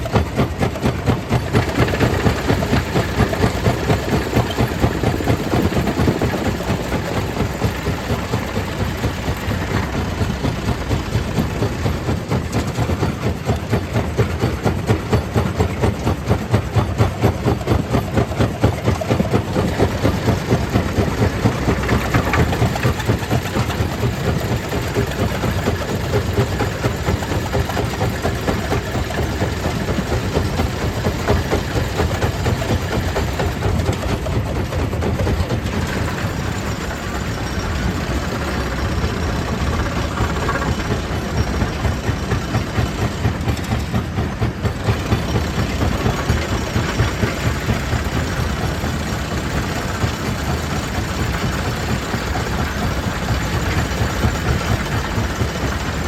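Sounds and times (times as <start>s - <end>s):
stone crusher pulsing drone: 1.1s - 13.9s, 19.4s - 56.0s.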